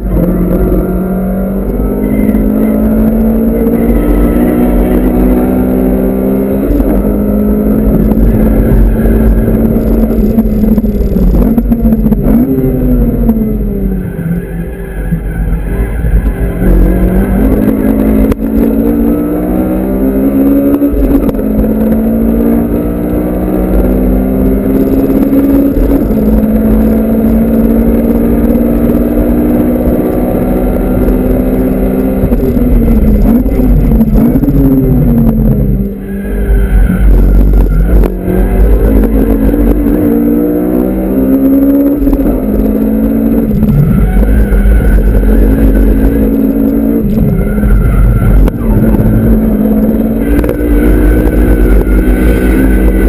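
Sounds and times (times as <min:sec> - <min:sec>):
car engine under hard driving: 0:00.0 - 0:53.0.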